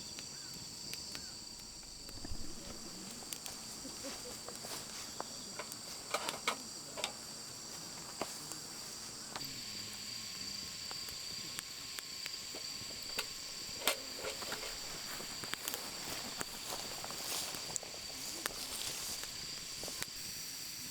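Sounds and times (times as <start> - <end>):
crickets chirring: 0.0 - 20.9.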